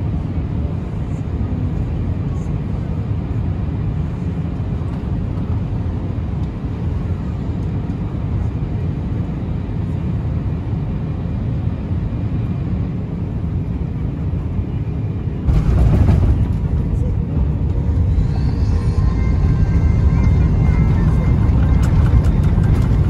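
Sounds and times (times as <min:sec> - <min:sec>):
aircraft cabin engine rumble: 0:00.0 - 0:23.0.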